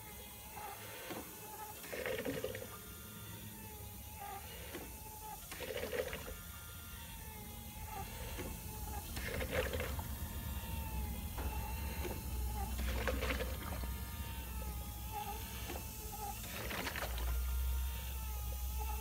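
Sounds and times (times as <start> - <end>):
small motor whining: 0.0 - 19.0.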